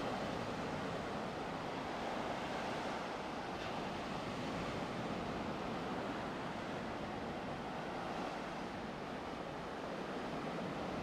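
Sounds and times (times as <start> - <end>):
ocean surf washing onto beach: 0.0 - 11.0.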